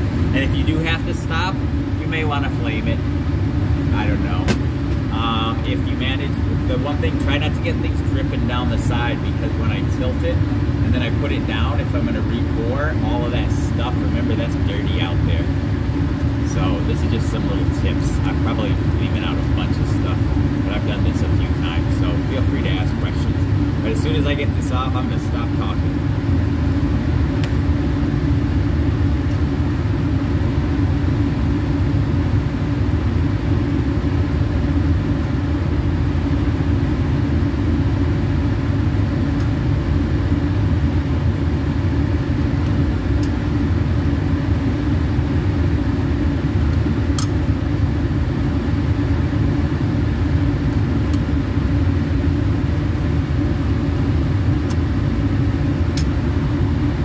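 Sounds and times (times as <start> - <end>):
blower fan running: 0.0 - 57.0.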